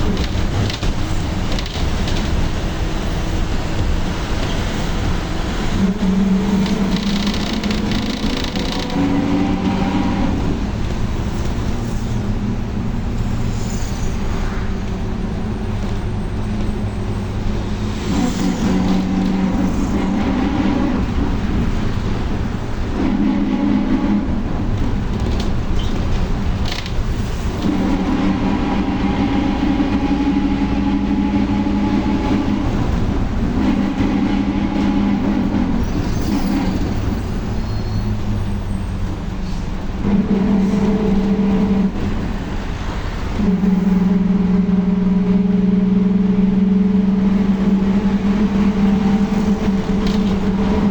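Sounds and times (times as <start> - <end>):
bus engine: 0.0 - 50.9
differential gear whine: 0.0 - 50.9
drivetrain drone: 0.0 - 50.9
road rumble: 0.0 - 50.9.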